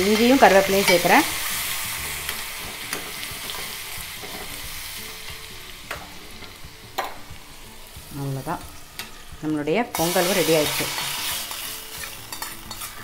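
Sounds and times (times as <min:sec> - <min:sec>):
leaves sizzling in hot oil: 0:00.0 - 0:13.0.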